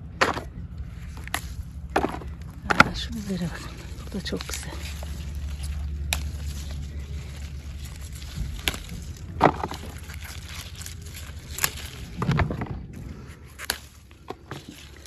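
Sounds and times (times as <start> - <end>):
leaves rustling: 0.7 - 15.0
pepper stems snapping: 1.0 - 15.0.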